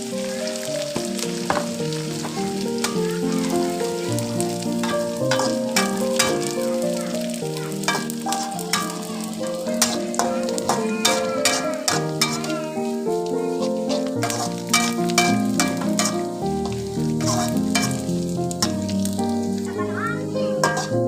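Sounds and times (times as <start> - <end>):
food sizzling in a frying pan: 0.0 - 21.0
soft background music: 0.0 - 21.0
spatula scraping a pan: 2.1 - 19.0, 20.6 - 21.0.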